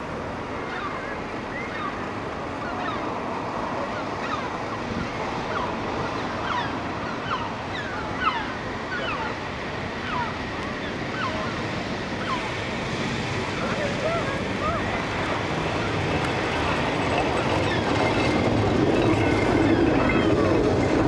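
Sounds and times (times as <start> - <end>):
wind: 0.0 - 21.0
gulls calling: 0.4 - 21.0.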